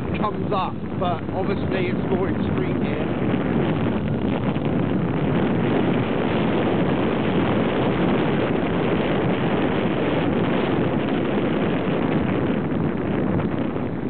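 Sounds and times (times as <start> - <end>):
motorbike running: 0.0 - 14.0
road noise: 0.0 - 14.0
wind buffeting microphone: 0.0 - 14.0.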